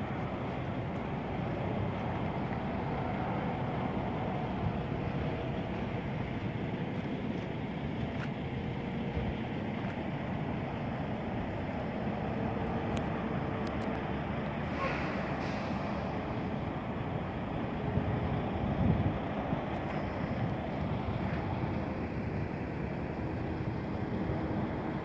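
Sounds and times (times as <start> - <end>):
low outdoor background rumble: 0.0 - 25.0.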